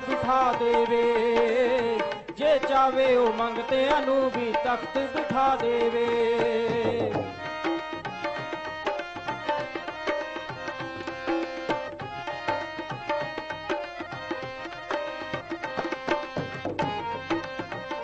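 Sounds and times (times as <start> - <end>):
hand drum rhythm: 0.0 - 18.0
harmonium melody: 0.0 - 18.0.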